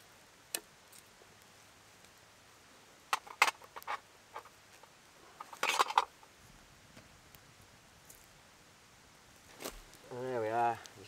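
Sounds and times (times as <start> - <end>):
twig fire crackling: 0.0 - 11.0.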